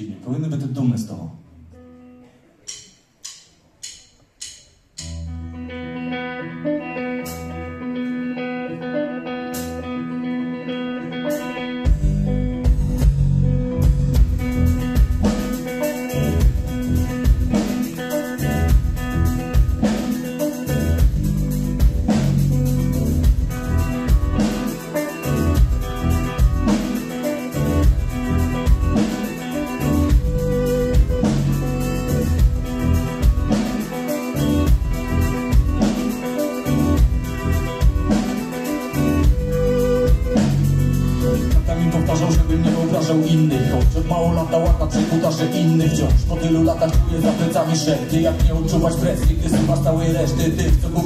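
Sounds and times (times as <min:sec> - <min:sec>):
drum kit playing driving beat: 0:02.7 - 0:05.3, 0:11.3 - 0:51.0
electric guitar chords: 0:05.0 - 0:51.0.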